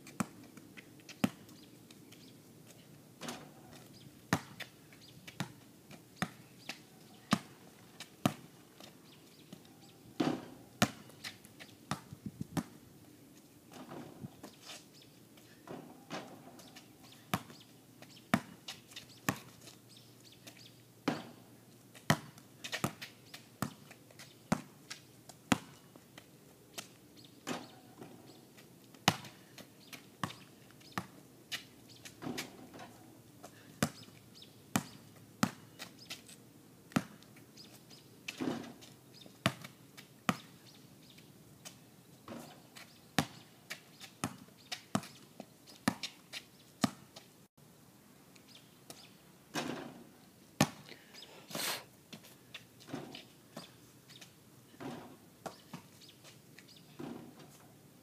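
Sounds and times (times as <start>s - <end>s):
basketball bouncing on asphalt: 0.0s - 1.6s, 3.2s - 9.0s, 10.2s - 12.8s, 13.7s - 14.8s, 15.6s - 19.8s, 20.4s - 36.2s, 36.9s - 40.6s, 41.6s - 47.3s, 48.9s - 50.9s, 52.1s - 56.4s, 57.0s - 57.6s.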